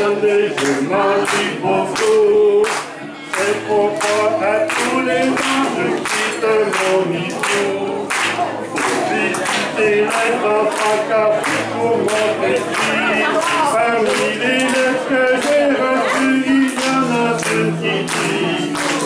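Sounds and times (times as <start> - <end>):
group singing nursery rhyme: 0.0 - 19.0
hand-clapping on the beat: 0.0 - 19.0.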